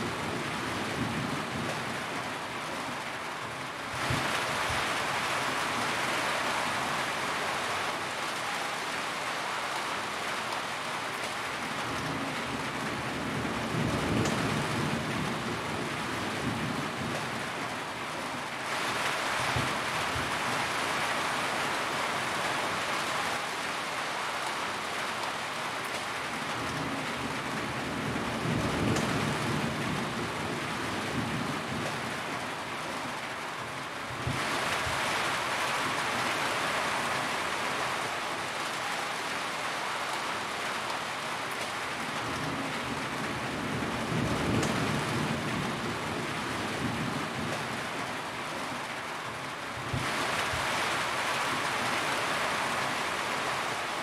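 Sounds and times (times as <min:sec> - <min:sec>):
rain on a metal roof: 0:00.0 - 0:54.0.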